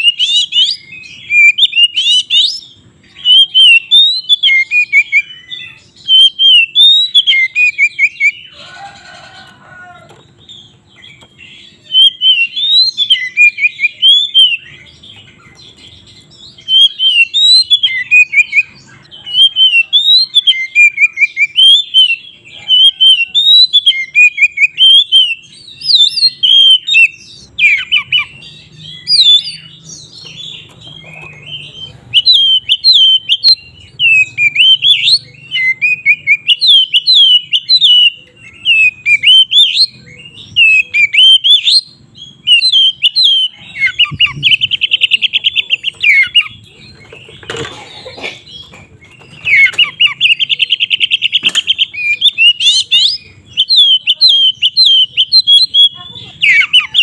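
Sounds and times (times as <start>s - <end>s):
bird singing sliding chirps: 0.0s - 57.0s.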